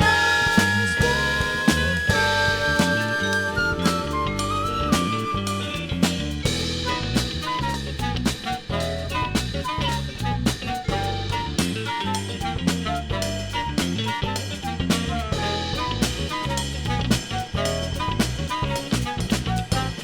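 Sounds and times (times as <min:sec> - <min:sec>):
bass line: 0:00.0 - 0:20.0
drum kit steady beat: 0:00.0 - 0:20.0.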